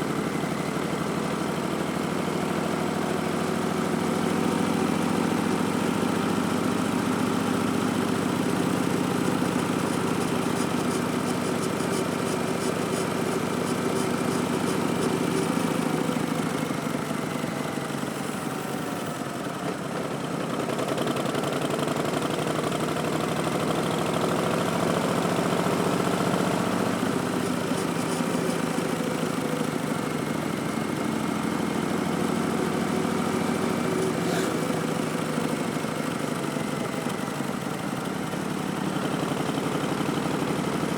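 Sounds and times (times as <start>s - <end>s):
motorcycle engine riding: 0.0s - 40.9s.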